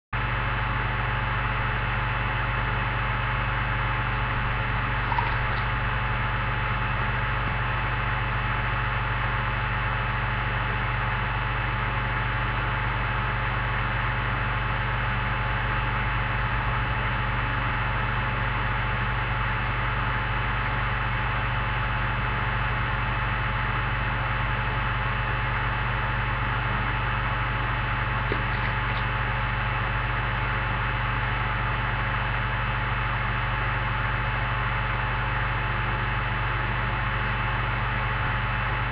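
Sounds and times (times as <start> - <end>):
electrical hum with hiss: 0.2 - 38.9.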